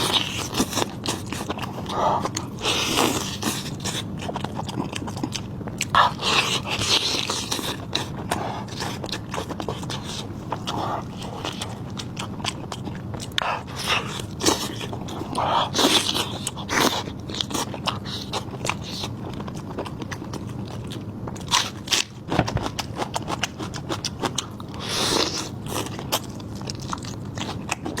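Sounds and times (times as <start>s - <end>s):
crunchy food chewing: 0.0s - 28.0s.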